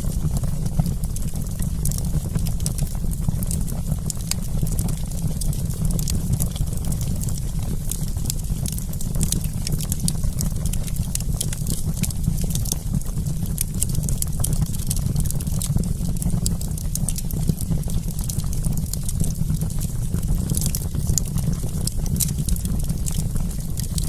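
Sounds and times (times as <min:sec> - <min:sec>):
campfire crackling: 0:00.1 - 0:24.0.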